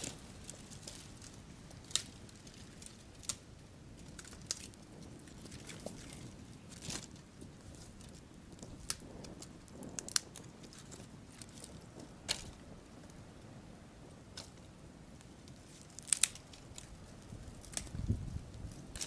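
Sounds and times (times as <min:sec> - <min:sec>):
campfire crackling: 0:00.0 - 0:19.0
dry branches rustling: 0:00.0 - 0:19.0
fire sharp pops: 0:00.0 - 0:19.0.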